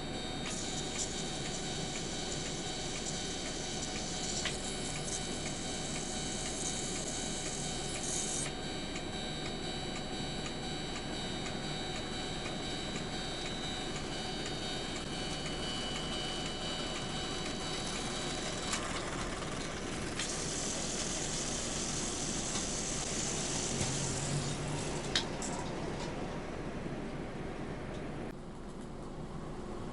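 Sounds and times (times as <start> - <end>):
mechanical whirring: 0.0 - 9.8, 11.4 - 26.6
crossing signal warning tone: 0.0 - 25.0.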